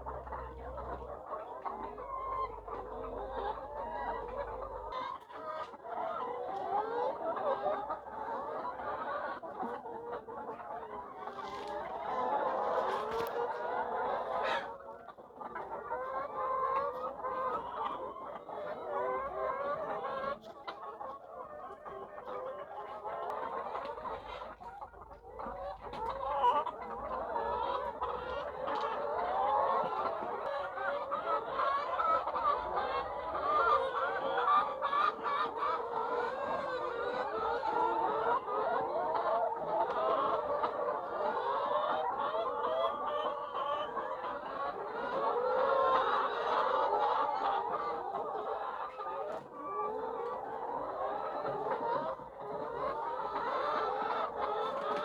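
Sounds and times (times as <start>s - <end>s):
hens clucking: 0.0s - 55.0s.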